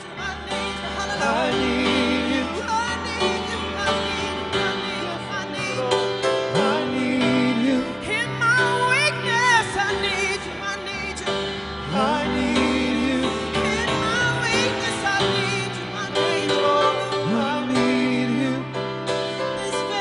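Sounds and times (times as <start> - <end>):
woman singing: 0.0 - 18.7, 19.4 - 20.0
piano playing slow chords: 0.0 - 20.0.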